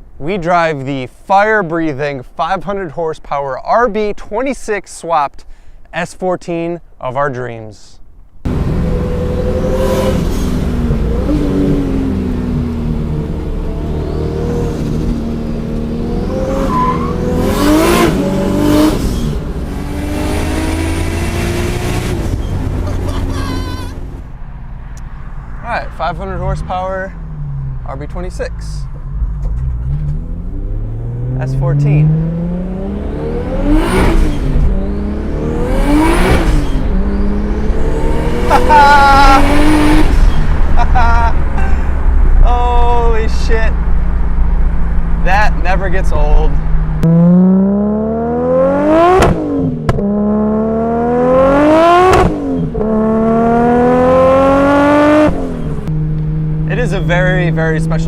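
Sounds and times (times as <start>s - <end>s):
car engine accelerating: 8.4s - 58.0s.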